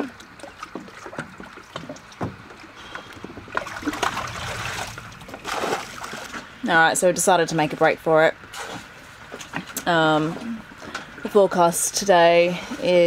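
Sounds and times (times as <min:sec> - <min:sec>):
rushes of water: 0:00.0 - 0:11.4
waves lapping against boat hull: 0:00.0 - 0:11.5.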